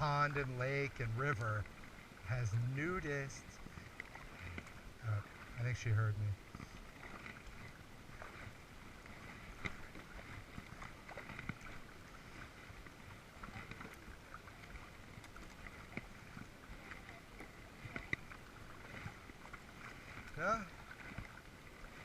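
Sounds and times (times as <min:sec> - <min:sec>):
small water splashes and drips: 0:00.0 - 0:22.0.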